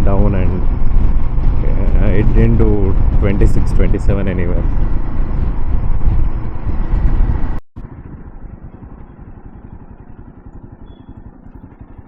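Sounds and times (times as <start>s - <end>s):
motorcycle engine and wind rumble: 0.0s - 12.0s.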